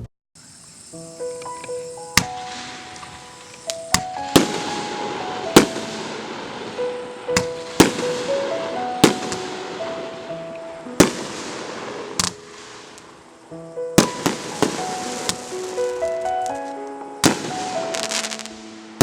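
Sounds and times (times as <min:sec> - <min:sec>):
fireworks crackling: 0:00.4 - 0:19.0
background music: 0:01.0 - 0:19.0
fireworks bangs: 0:01.2 - 0:19.0.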